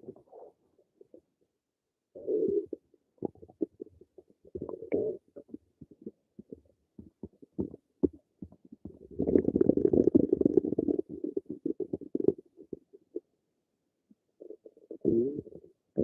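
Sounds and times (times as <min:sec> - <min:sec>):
stomach gurgling: 0:00.0 - 0:01.3, 0:02.2 - 0:13.3, 0:14.1 - 0:16.0.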